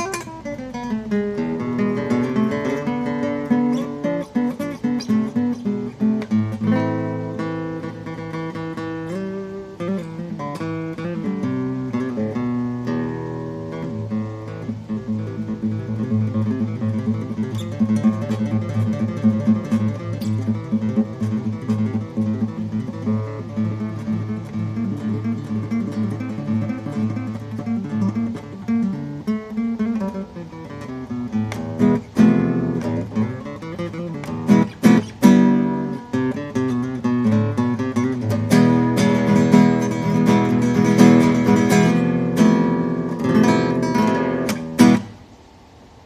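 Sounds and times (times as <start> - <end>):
acoustic guitar strumming: 0.0 - 45.7.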